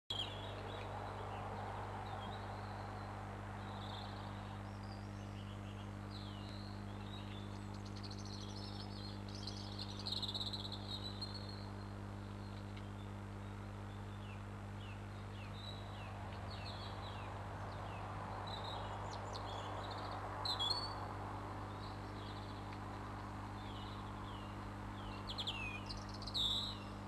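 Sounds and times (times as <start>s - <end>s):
faint high chirping calls: 0.1s - 27.0s
low electrical hum: 0.1s - 27.0s.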